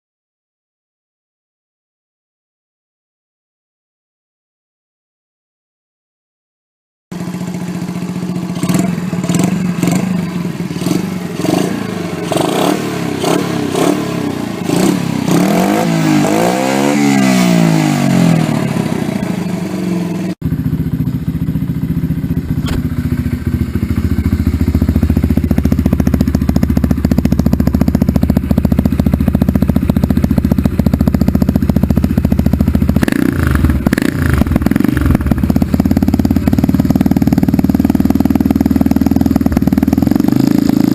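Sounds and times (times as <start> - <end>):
minibike engine revving: 7.2 - 40.9.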